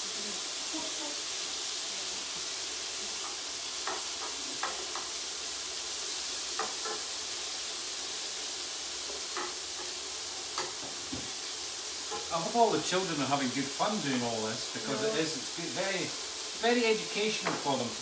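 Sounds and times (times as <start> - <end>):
food sizzling in pans: 0.0 - 18.0.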